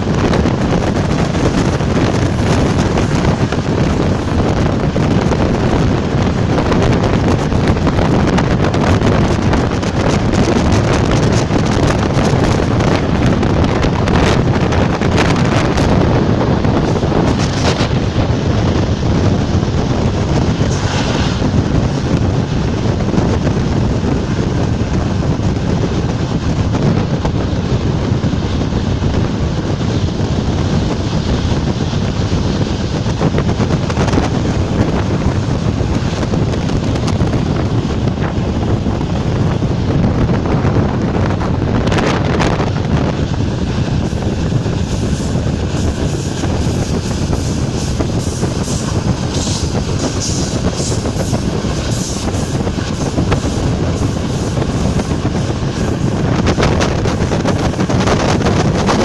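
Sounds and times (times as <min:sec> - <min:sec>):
train rumbling in motion: 0:00.0 - 0:59.0
wind buffeting microphone: 0:00.0 - 0:59.0.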